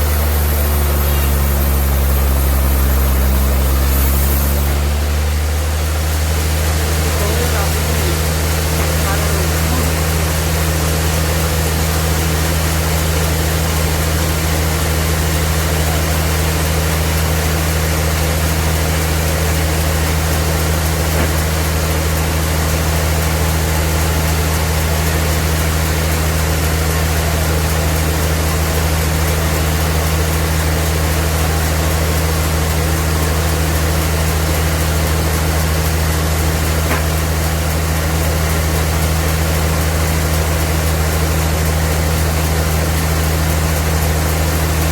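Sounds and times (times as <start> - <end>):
sawmill machinery humming: 0.0 - 44.9.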